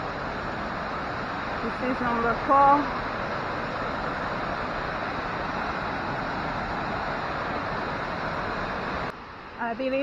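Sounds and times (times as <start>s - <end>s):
waterfall hissing: 0.0s - 10.0s.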